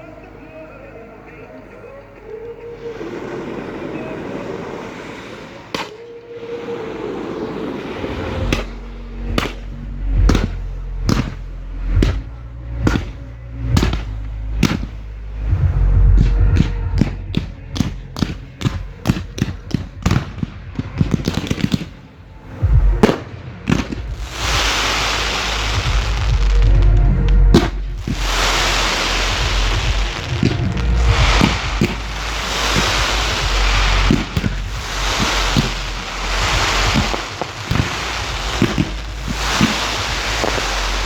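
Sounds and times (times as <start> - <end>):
music: 0.0 - 41.0
fireworks bangs and crackling: 2.7 - 41.0.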